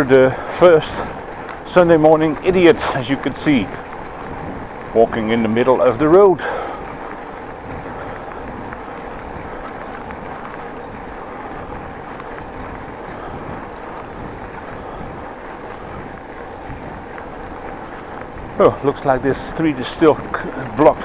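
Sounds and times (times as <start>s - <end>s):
bicycle rolling noise: 0.0s - 21.0s
wind rush on microphone: 0.0s - 21.0s.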